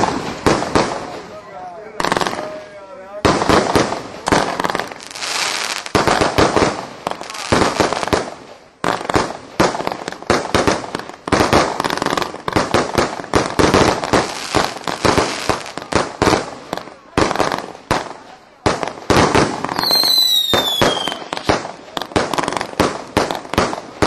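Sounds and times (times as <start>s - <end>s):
fireworks banging: 0.0s - 24.0s
fireworks crackling: 0.0s - 24.0s.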